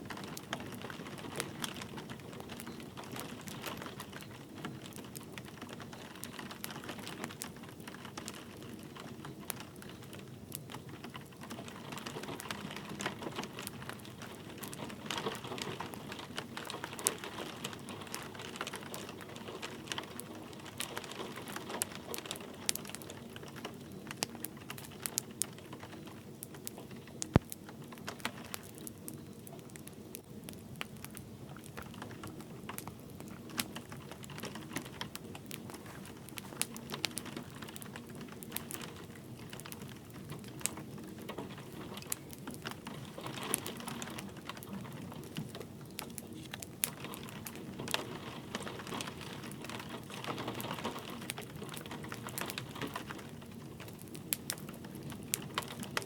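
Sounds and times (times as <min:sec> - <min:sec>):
light rain pattering: 0:00.0 - 0:56.0
wood fire crackling and popping: 0:00.0 - 0:56.0.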